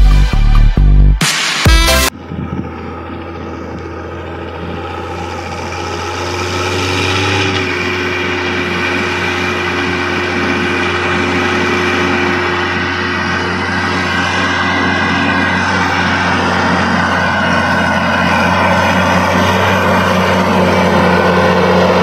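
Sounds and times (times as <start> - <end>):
tractor diesel engine running: 1.8 - 22.0.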